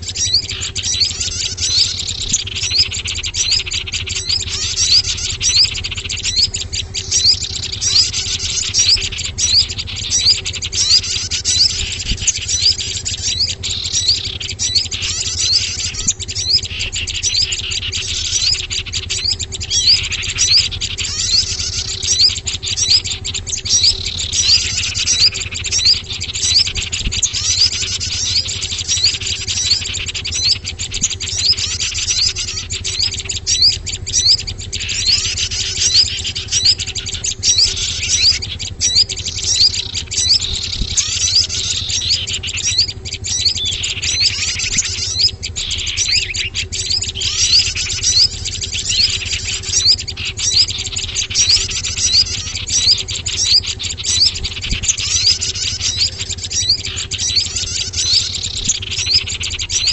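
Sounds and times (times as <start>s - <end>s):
songbirds twittering: 0.0s - 59.9s
steady low hum: 0.0s - 59.9s.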